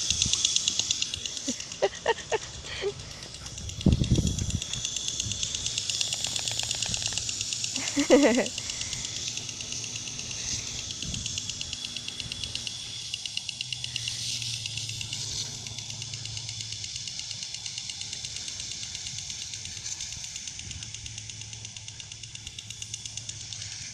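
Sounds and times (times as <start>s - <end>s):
lawn sprinkler ticking and hissing: 0.0s - 23.9s.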